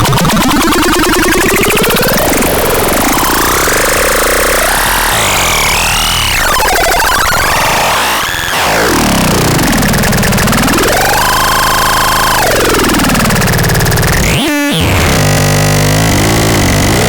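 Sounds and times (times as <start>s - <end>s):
harsh buzzing noise: 2.3s - 17.0s.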